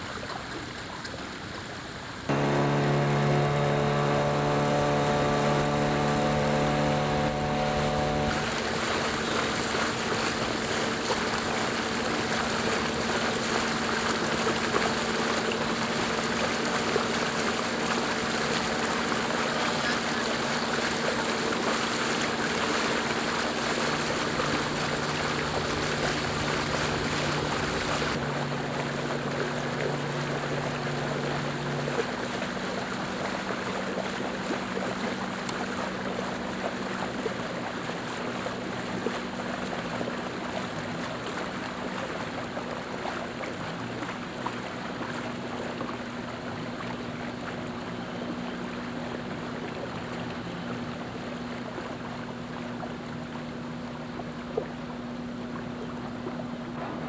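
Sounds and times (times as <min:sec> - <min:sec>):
boat engine droning: 0:02.2 - 0:57.0
rush of water and air: 0:02.3 - 0:47.8, 0:48.4 - 0:57.0.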